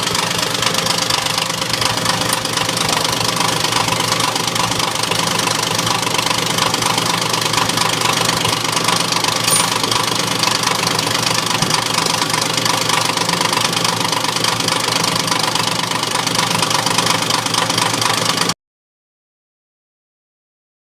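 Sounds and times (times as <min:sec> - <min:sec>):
machinery with rapid knocking: 0:00.0 - 0:18.6.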